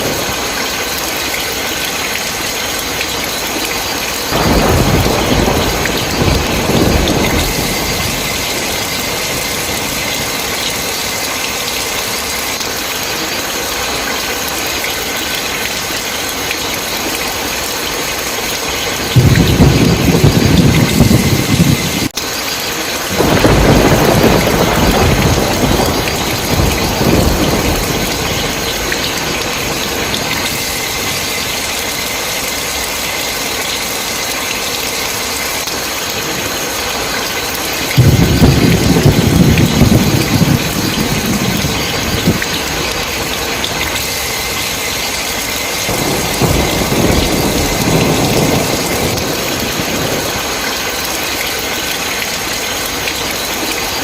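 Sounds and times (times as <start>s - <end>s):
thunder rumbling: 0.0s - 14.8s, 16.8s - 33.9s, 34.6s - 54.0s
heavy rain: 0.0s - 54.0s.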